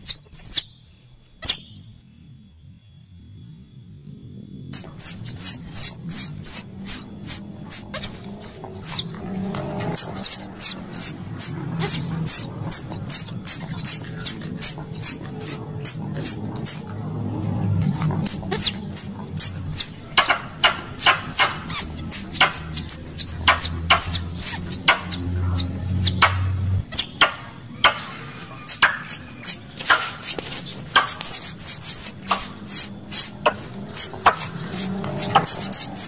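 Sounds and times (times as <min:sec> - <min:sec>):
squirrel chirping: 0:00.0 - 0:02.0, 0:04.8 - 0:16.9, 0:18.1 - 0:36.0
low steady rumble: 0:00.0 - 0:36.0.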